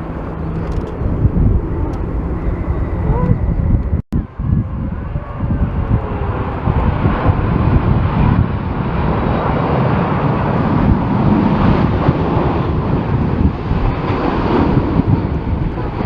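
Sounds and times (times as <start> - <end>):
jet engines roaring: 0.0 - 16.0
wind buffeting microphone: 0.0 - 16.0.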